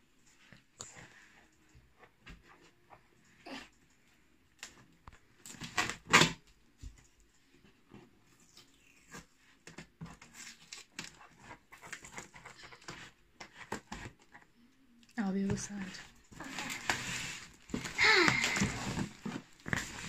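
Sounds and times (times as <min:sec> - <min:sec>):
cardboard rustling and creaking: 0:00.4 - 0:14.6, 0:15.4 - 0:20.0.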